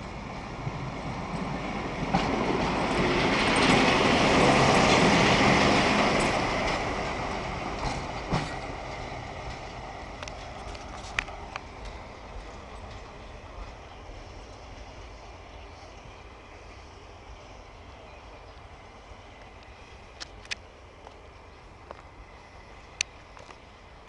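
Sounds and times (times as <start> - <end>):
diesel locomotive passing: 0.0 - 24.0.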